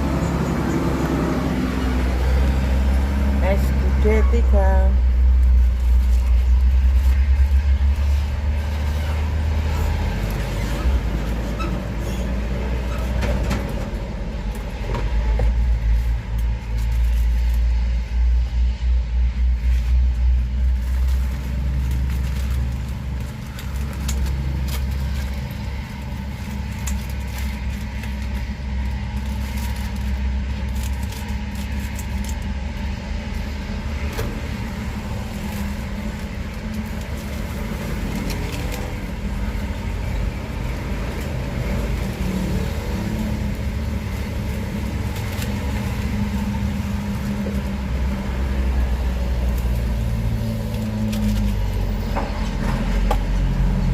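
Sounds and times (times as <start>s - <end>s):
traffic rumble: 0.0s - 53.9s.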